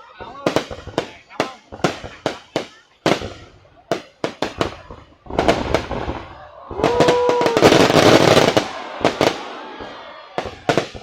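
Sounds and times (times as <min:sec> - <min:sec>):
fireworks crackling bursts: 0:00.0 - 0:11.0
fireworks sharp bangs: 0:00.0 - 0:11.0.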